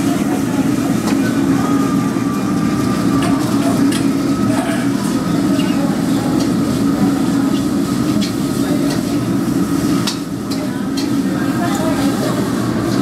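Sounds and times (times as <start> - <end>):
gas burner rumbling: 0.0 - 13.0.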